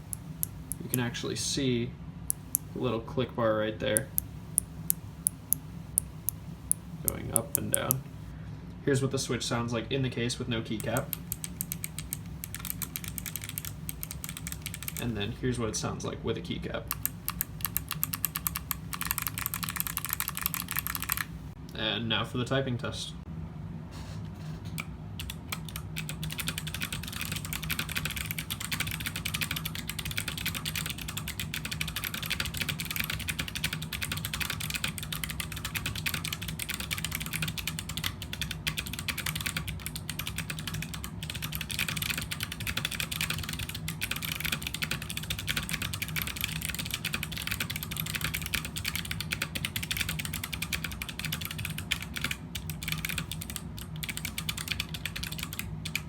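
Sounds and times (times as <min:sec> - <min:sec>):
fast clicky keyboard typing: 0:00.0 - 0:01.1, 0:04.0 - 0:08.3, 0:10.8 - 0:15.3, 0:16.9 - 0:21.4, 0:25.2 - 0:56.0.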